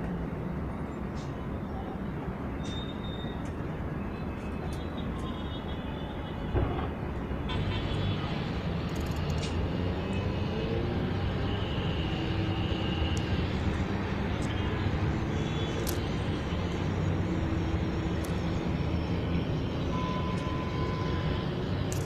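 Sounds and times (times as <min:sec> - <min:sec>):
city traffic rumble: 0:00.0 - 0:22.0.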